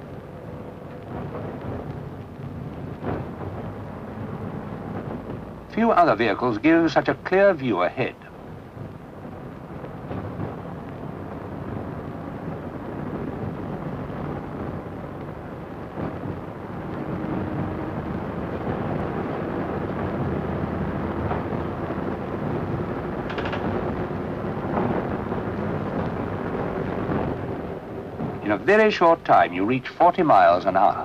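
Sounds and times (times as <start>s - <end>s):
diesel railcar engine rumble: 0.0s - 31.0s
train wheels on track: 0.0s - 31.0s.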